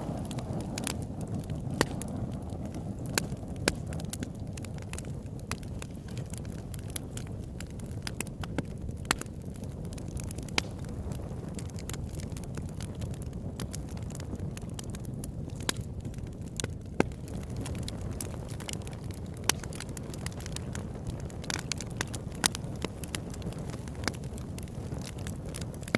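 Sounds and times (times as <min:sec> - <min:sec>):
flames burning: 0:00.0 - 0:25.9
wood crackling and popping: 0:00.0 - 0:25.9.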